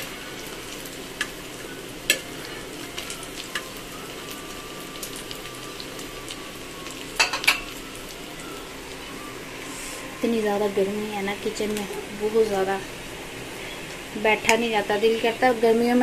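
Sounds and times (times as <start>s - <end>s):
patties sizzling in a pan: 0.0s - 16.0s.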